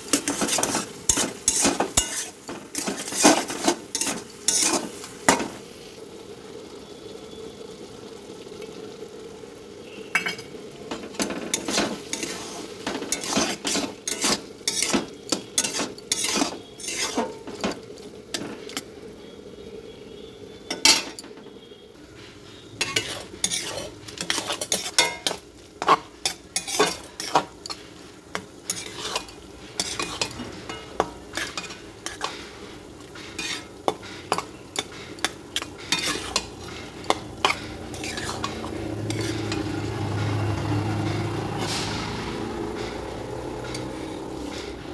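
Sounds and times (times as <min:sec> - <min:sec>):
spatula scraping metal pan: 0:00.0 - 0:05.6, 0:10.2 - 0:18.8, 0:22.2 - 0:44.8
pan sizzling: 0:00.0 - 0:44.9.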